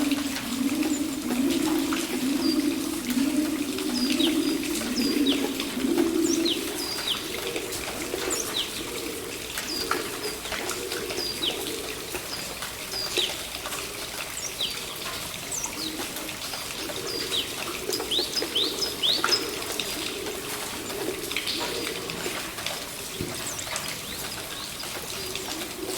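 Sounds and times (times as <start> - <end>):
pigeons cooing: 0.0 - 25.9
water trickling: 0.0 - 25.9.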